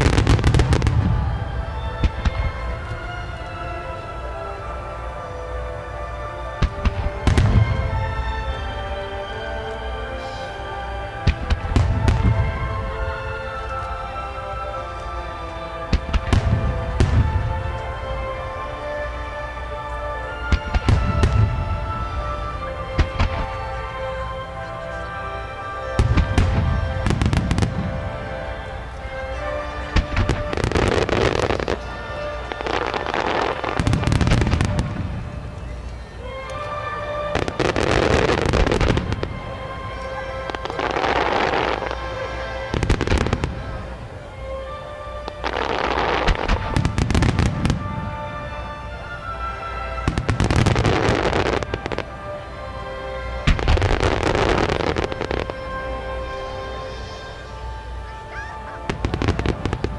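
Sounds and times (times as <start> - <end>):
fireworks bangs: 0.0 - 3.7, 5.3 - 14.2, 15.2 - 19.0, 19.9 - 24.3, 25.8 - 52.4, 53.4 - 59.9
music over loudspeakers: 0.0 - 59.9.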